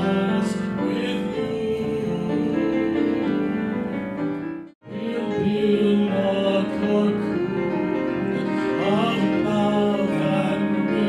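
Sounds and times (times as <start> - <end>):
cabaret singing: 0.0 - 3.6, 4.8 - 11.0
solo piano accompaniment: 0.0 - 11.0.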